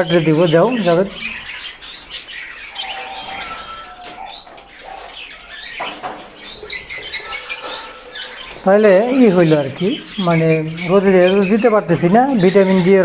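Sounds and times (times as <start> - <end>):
lovebirds chirping and chattering: 0.0 - 13.0.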